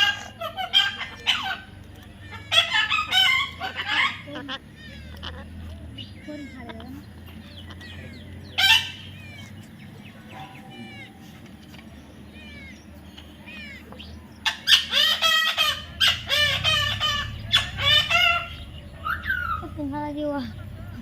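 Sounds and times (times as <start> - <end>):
shrill parrot calls: 0.0 - 9.6, 10.3 - 11.4, 12.3 - 19.7
parrot squawking: 0.0 - 11.6, 12.2 - 19.8
parrot chirping softly: 0.0 - 19.8.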